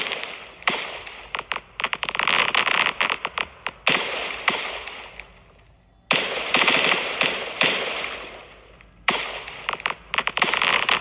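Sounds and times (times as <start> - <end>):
fireworks bangs: 0.0 - 5.5, 6.1 - 11.0.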